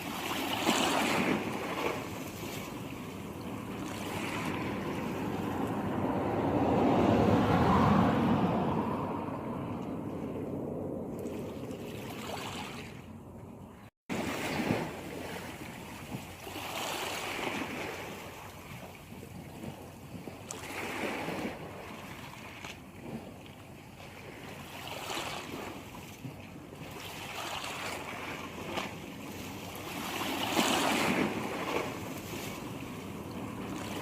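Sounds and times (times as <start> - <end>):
sea waves washing: 0.0 - 34.0.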